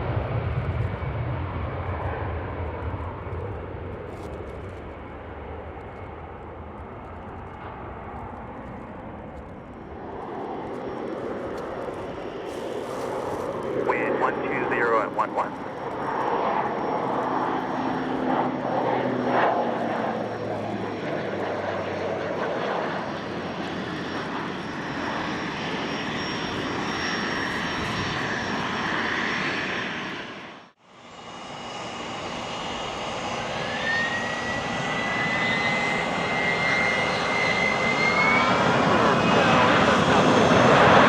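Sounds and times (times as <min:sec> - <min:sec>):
jet engine whine: 0:00.0 - 0:41.0
turboprop engines: 0:00.0 - 0:41.0.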